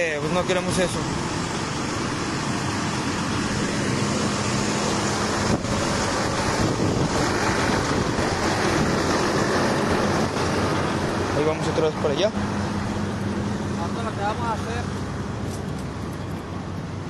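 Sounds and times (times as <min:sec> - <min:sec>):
wind buffeting microphone: 0:00.5 - 0:17.0.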